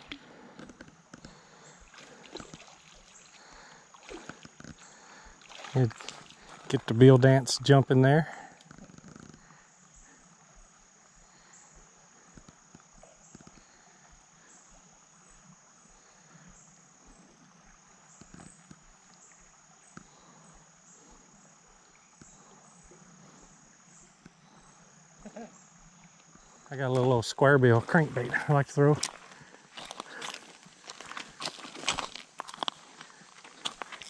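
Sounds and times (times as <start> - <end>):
insect buzz: 0.0 - 34.0
insect chirps: 0.0 - 34.0.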